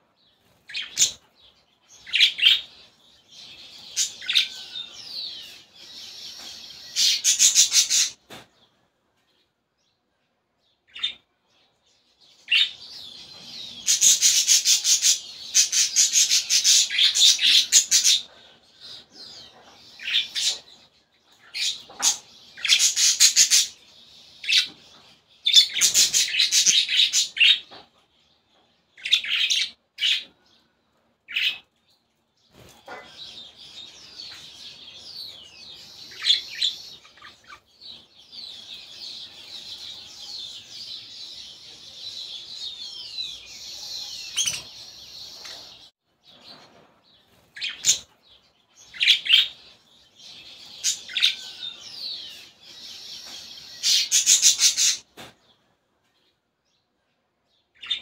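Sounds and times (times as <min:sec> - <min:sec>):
chicks cheeping: 0:00.0 - 0:08.8, 0:10.9 - 0:58.0.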